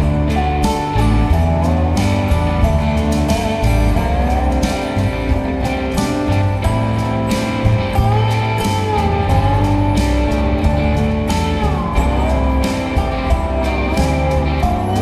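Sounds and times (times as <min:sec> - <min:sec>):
background music with guitar: 0:00.0 - 0:15.0.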